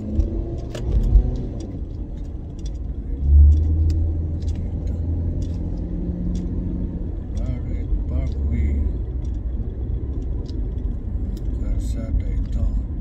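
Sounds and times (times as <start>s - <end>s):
car engine and road rumble: 0.0s - 13.0s
light clicks and rattles: 0.2s - 12.8s.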